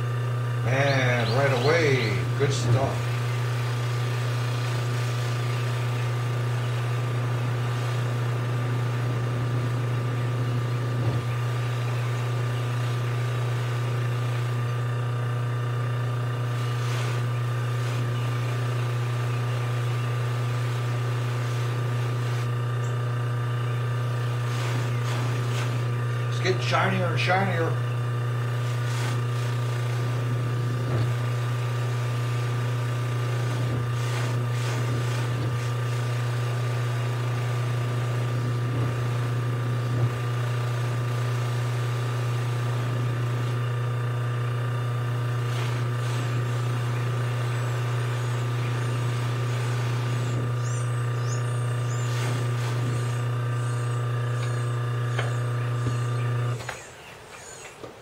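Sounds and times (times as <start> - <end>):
bench buffer motor humming: 0.0 - 58.0.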